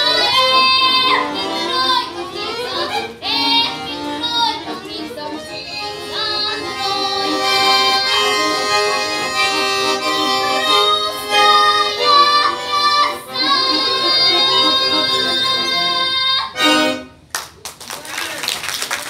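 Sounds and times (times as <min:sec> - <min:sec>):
accordion playing: 0:00.0 - 0:17.3.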